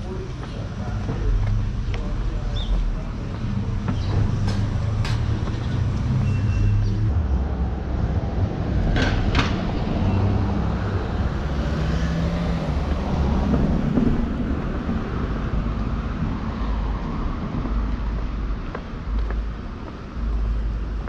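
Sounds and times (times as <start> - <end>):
low rumble of traffic: 0.0 - 21.0.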